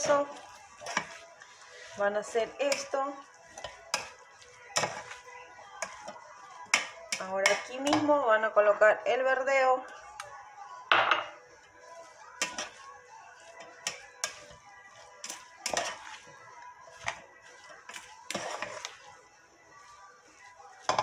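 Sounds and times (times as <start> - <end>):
spatula scraping metal pot: 0.0 - 8.3, 11.9 - 21.0.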